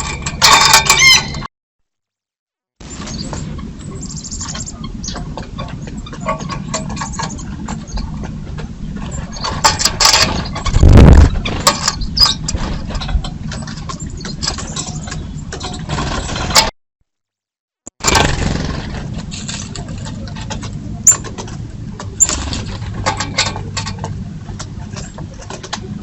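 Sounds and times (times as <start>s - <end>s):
birds tapping and clicking: 0.0s - 1.5s, 2.8s - 16.7s, 18.1s - 26.0s.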